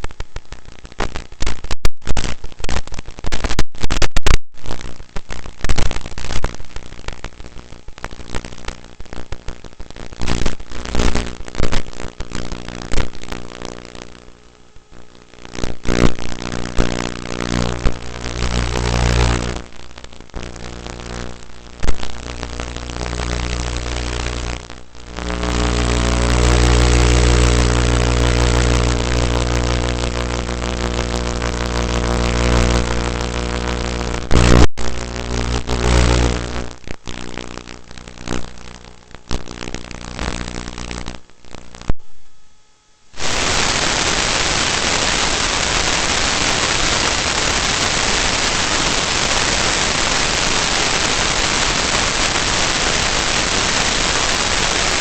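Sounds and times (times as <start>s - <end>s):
steady static hiss: 0.0s - 55.0s.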